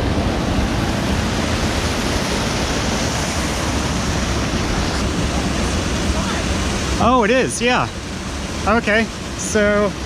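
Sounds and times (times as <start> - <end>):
creek water over waterfall: 0.0 - 10.0.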